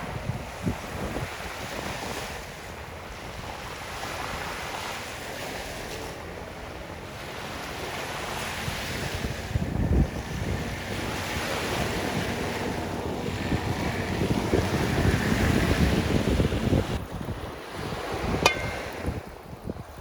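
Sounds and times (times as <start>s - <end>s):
sea surf washing: 0.0s - 20.0s
wind rumbling on microphone: 0.0s - 20.0s.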